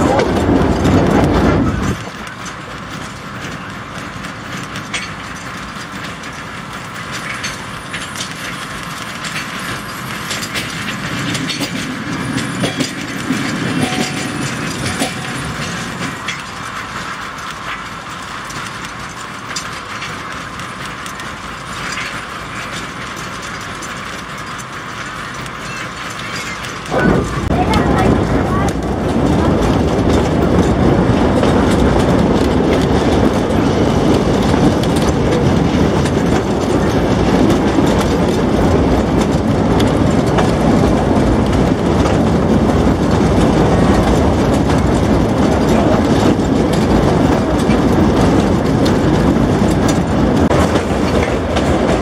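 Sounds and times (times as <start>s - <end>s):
train wagons rattling: 0.0s - 52.0s
wheels clicking: 0.0s - 52.0s.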